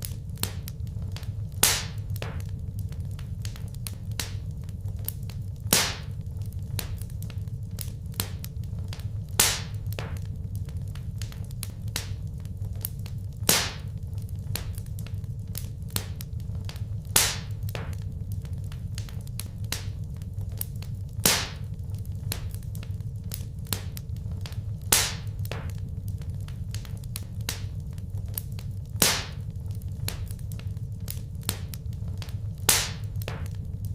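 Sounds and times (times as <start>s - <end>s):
sharp pops from fire: 0.0s - 33.9s
wood fire crackling: 0.0s - 33.9s.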